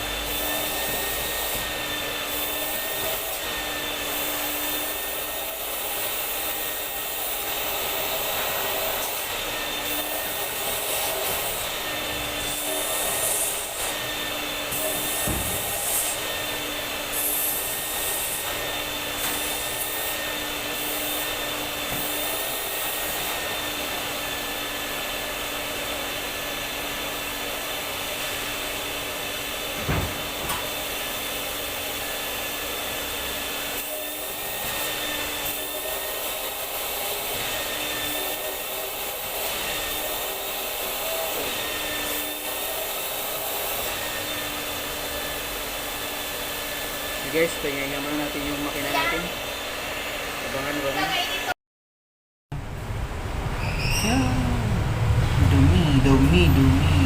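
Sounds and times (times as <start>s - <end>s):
vacuum cleaner running: 0.0s - 51.6s.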